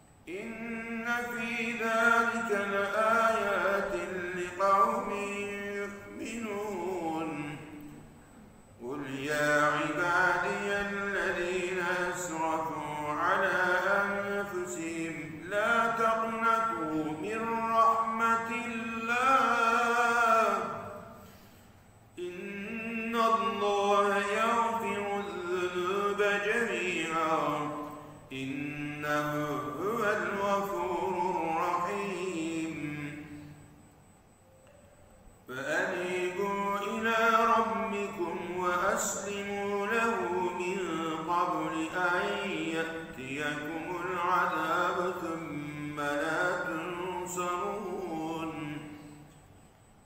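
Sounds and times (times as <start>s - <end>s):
man chanting melodically: 0.2s - 21.2s, 22.2s - 33.9s, 35.4s - 49.3s.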